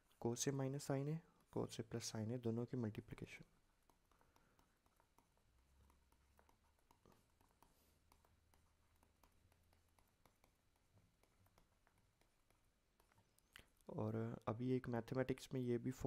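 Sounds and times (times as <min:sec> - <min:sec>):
stylus ticking on tablet: 0:01.2 - 0:15.7.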